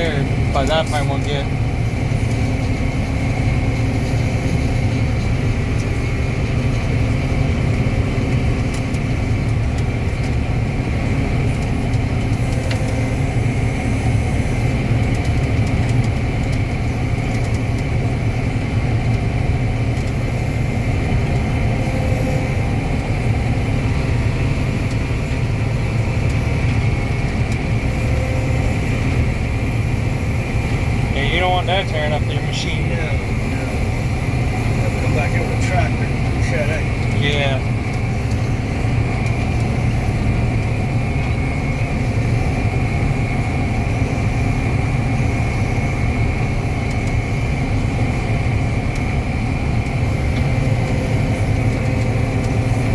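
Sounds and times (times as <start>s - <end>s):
low machine drone: 0.0s - 52.9s.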